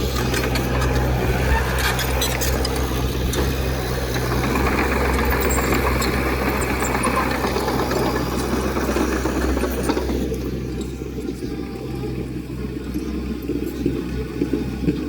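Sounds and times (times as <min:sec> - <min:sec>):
diesel engine clattering: 0:00.0 - 0:15.0.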